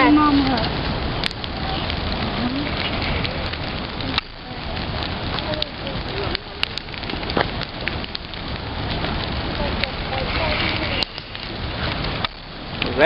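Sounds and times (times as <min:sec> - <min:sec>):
bonfire crackling and popping: 0:00.0 - 0:13.0
faint voices: 0:00.0 - 0:13.0.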